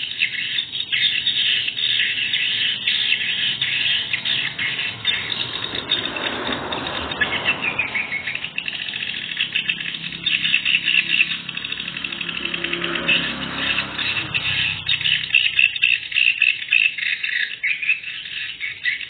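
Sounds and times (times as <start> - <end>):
swiftlets twittering: 0.0 - 19.0.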